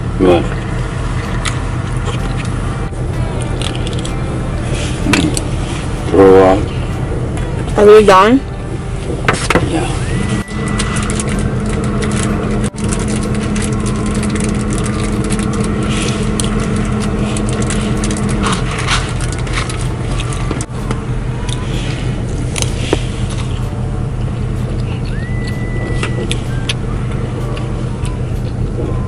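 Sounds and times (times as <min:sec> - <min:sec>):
road noise: 0:00.0 - 0:29.0
truck engine drone: 0:00.0 - 0:29.0.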